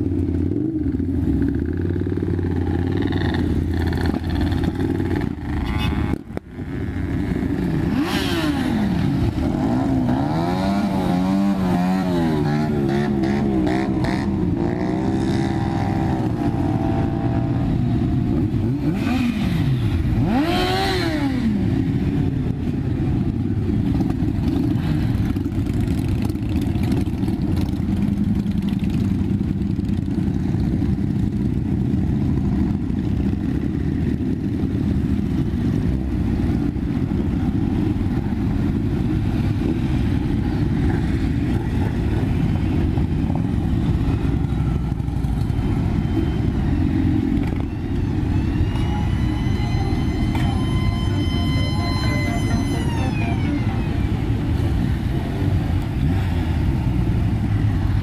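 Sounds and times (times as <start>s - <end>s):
motorcycle engines rumbling: 0.0s - 58.0s.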